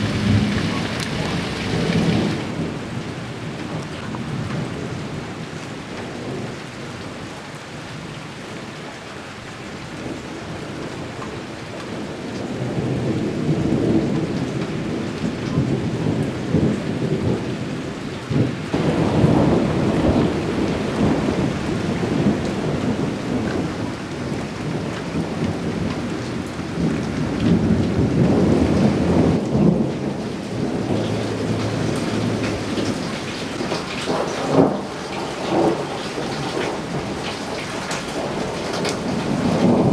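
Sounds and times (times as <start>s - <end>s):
thunder rumbling: 0.0s - 7.1s, 10.0s - 39.9s
rain falling: 0.0s - 39.9s.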